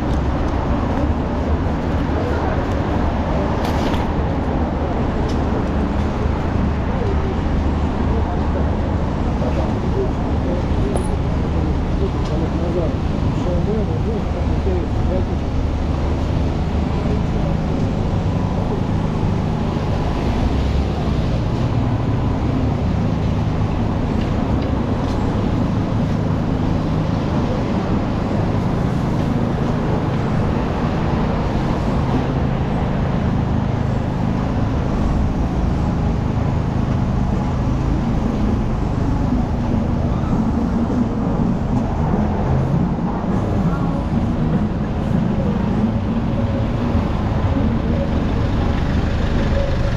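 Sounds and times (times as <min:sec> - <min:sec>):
city road traffic rumble: 0:00.0 - 0:49.9.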